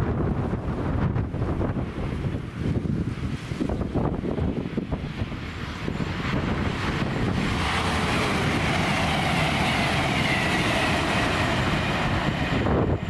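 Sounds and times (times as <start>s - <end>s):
train engine and wheel noise: 0.0s - 13.0s.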